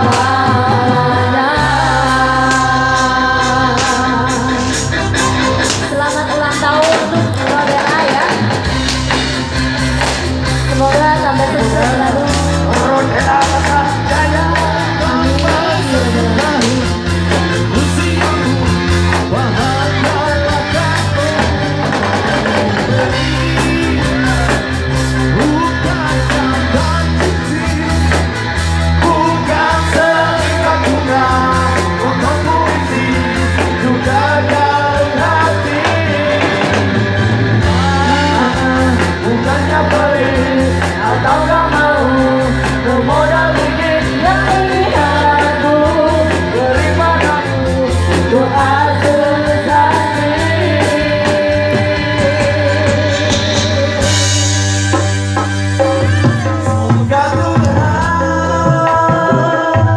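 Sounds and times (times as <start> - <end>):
electric guitar: 0.0 - 59.9
live band playing: 0.0 - 59.9
people singing into microphones: 0.0 - 59.9.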